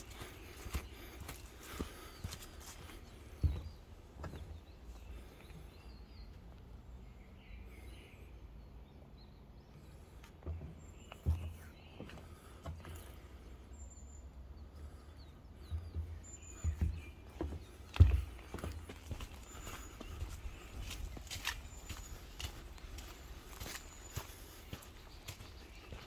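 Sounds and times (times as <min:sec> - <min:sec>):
footsteps on forest path: 0:00.0 - 0:08.0, 0:09.6 - 0:26.0
distant songbirds chirping: 0:00.0 - 0:26.0.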